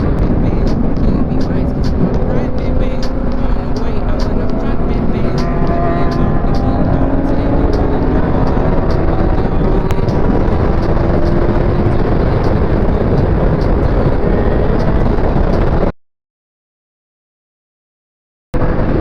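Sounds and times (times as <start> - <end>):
motorcycle engine: 0.0 - 15.8
heavy wind noise on microphone: 0.0 - 15.9, 18.6 - 19.0.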